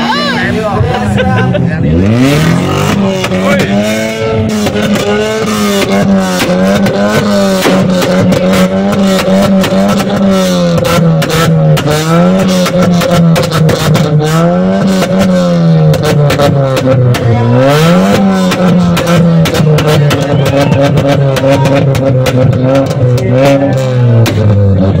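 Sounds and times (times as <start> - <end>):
car engine revving loudly: 0.0 - 25.0.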